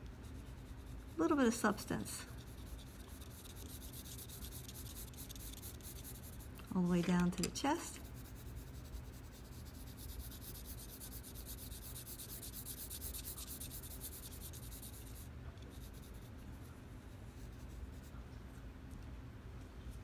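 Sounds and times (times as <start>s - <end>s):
pencil scratching on paper: 0.2s - 18.1s.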